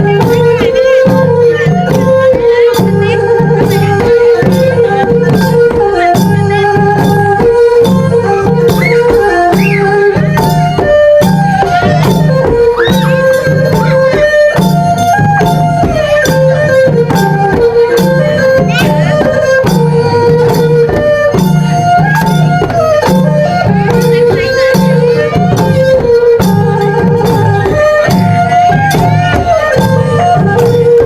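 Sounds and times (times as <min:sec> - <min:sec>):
low drum beat: 0:00.0 - 0:31.0
sharp percussion strikes: 0:00.0 - 0:31.0.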